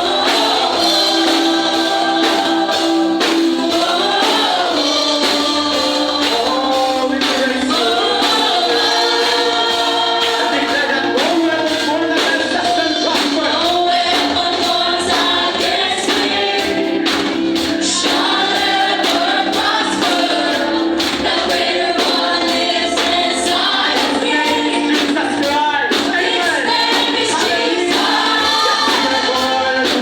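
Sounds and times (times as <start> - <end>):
group singing praise song: 0.0 - 30.0
instrumental accompaniment: 0.0 - 30.0
steady percussion beat: 0.0 - 30.0.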